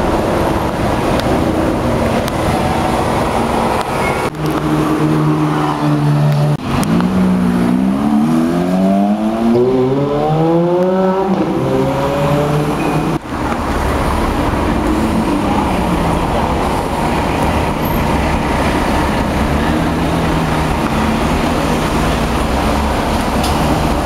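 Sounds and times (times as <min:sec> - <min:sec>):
car engine accelerating: 0:00.0 - 0:24.0
engine and road noise: 0:00.0 - 0:24.0.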